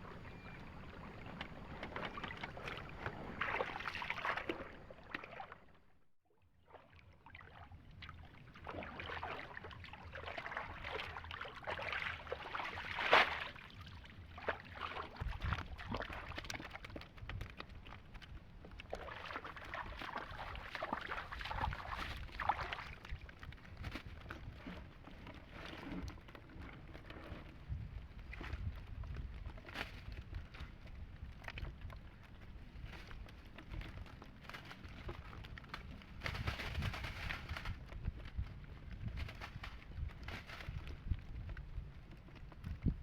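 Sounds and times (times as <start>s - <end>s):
water sloshing and splashing: 0.0s - 6.0s, 6.6s - 43.0s.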